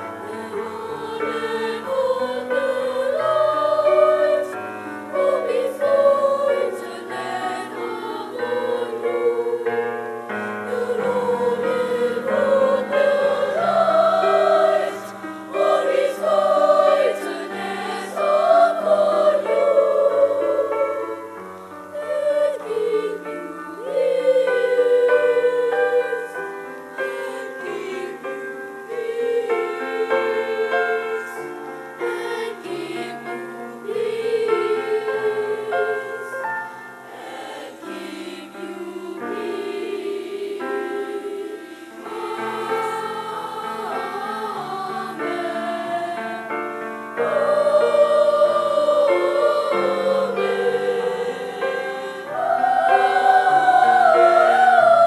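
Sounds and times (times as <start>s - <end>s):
boys' choir singing in harmony: 0.0s - 55.0s.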